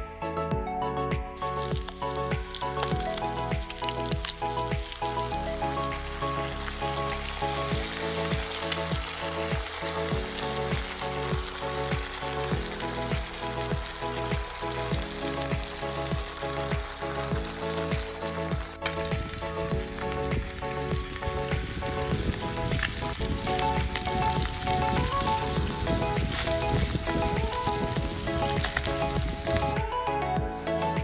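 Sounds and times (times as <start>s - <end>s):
background music with regular beat: 0.0s - 31.0s
food sizzling in a skillet: 1.4s - 29.8s.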